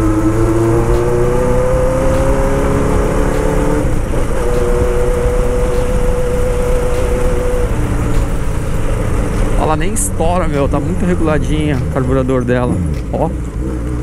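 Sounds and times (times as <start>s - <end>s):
motorcycle engine pulling along: 0.0s - 14.0s.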